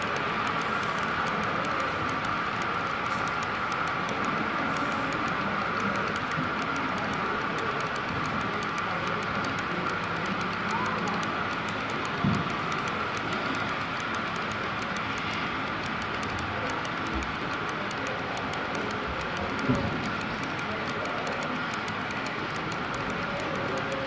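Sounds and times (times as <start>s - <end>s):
model train rolling hum: 0.0s - 24.0s.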